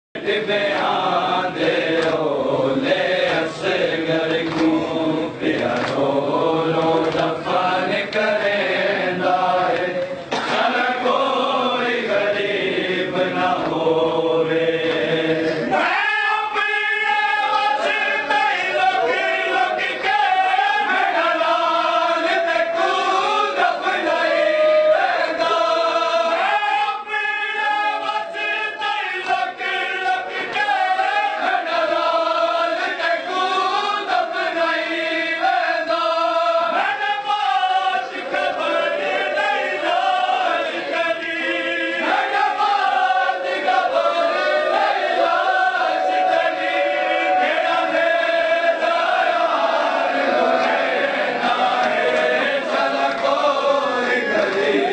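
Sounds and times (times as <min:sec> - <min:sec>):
men chanting a lament: 0:00.2 - 0:54.9.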